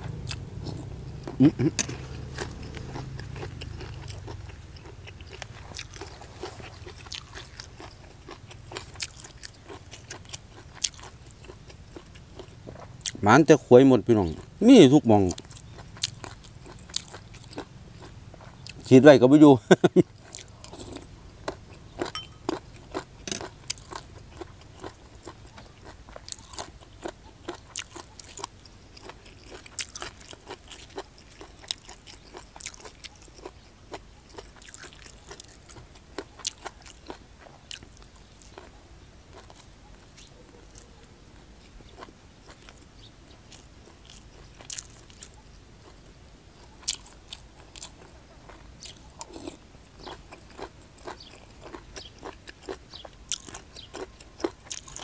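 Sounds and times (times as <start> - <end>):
chewing crunchy mushrooms: 0.0 - 55.0.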